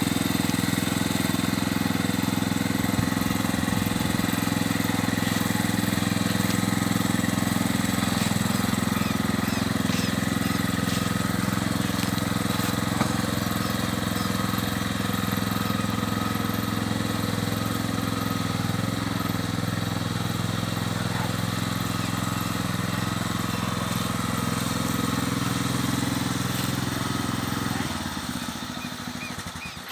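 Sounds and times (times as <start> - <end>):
small engine running steadily: 0.0 - 29.9.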